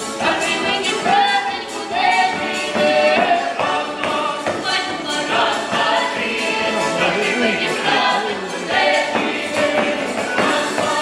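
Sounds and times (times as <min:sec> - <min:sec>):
accordion: 0:00.0 - 0:11.0
cymbaly: 0:00.0 - 0:11.0
steady tambourine beat: 0:00.0 - 0:11.0
women leading group singing: 0:00.0 - 0:11.0.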